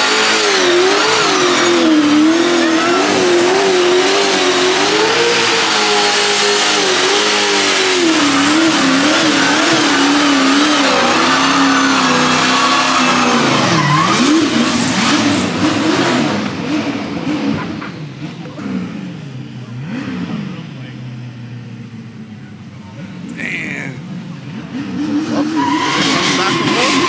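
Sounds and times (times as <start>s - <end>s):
car engine revving high: 0.0s - 22.4s, 23.0s - 27.0s
tyres spinning on asphalt: 0.0s - 23.4s, 24.0s - 27.0s.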